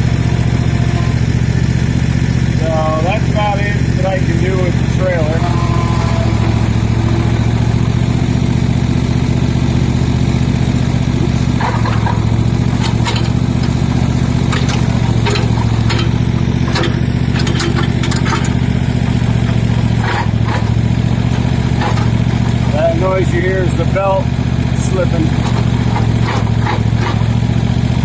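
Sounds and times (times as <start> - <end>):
mower engine running: 0.0 - 28.0.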